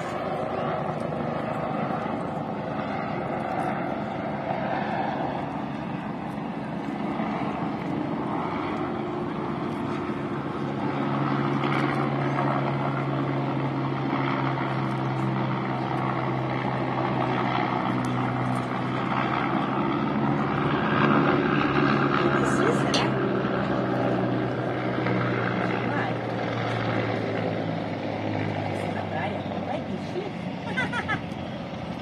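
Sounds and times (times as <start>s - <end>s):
helicopter flying overhead: 0.0s - 32.0s.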